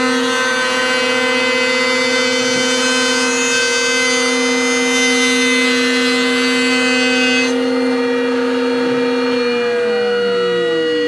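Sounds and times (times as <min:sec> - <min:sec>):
router motor whining: 0:00.0 - 0:11.0.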